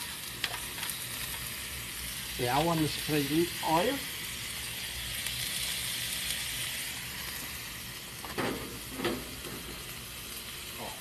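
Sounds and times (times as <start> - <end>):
meat and onions sizzling on griddle: 0.0 - 11.0.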